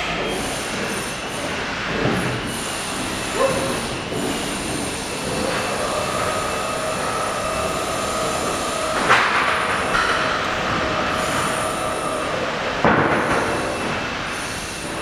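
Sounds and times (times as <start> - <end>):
crane mechanical whine: 0.0 - 15.0.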